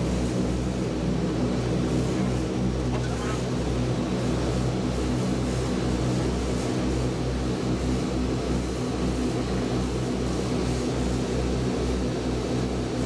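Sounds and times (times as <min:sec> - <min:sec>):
radial aircraft engines droning: 0:00.0 - 0:13.0.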